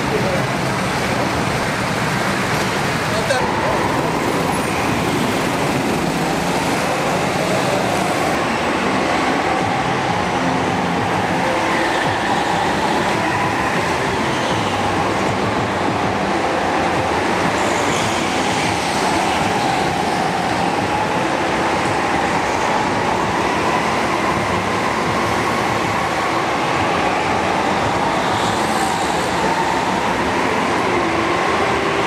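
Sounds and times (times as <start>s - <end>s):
whining kart engines: 0.0s - 32.0s.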